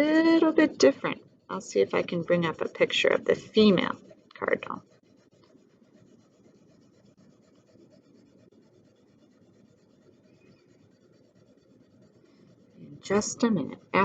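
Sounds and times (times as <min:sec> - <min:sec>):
colouring scratching on paper: 0:00.0 - 0:14.0.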